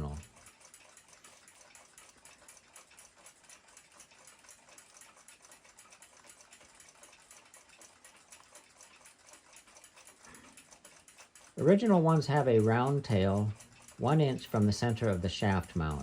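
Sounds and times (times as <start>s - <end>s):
mechanical clock ticking: 0.0s - 16.0s.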